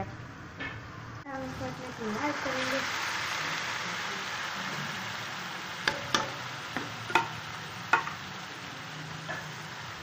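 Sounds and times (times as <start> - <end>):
light sizzle: 0.0 - 10.0.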